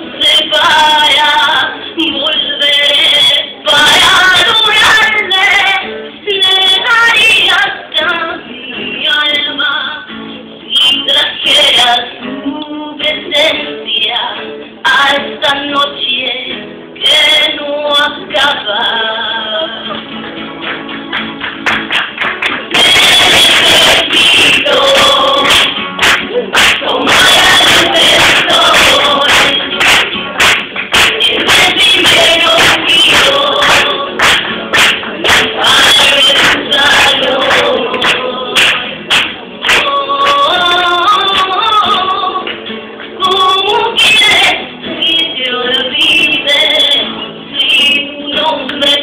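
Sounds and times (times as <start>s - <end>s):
woman singing: 0.0s - 10.1s, 10.7s - 20.1s, 22.7s - 49.0s
acoustic guitar: 0.0s - 49.0s.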